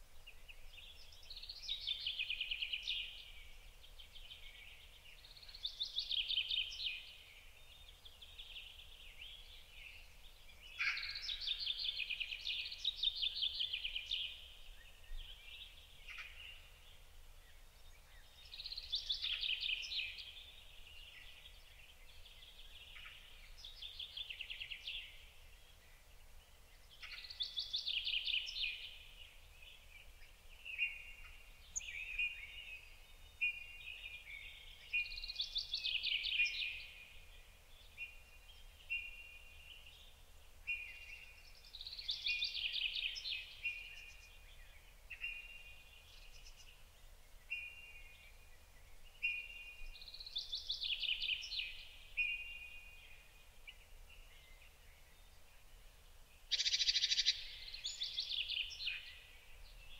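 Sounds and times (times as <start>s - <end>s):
faint low background noise: 0.0s - 59.9s
songbirds singing: 0.0s - 59.9s.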